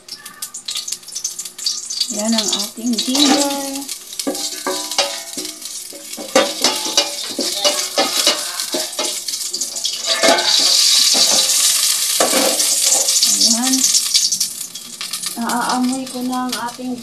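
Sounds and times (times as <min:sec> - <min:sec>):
ginger frying in a pot: 0:00.0 - 0:17.0
loud sizzle: 0:00.0 - 0:17.0
utensil scraping metal pot: 0:00.7 - 0:15.8.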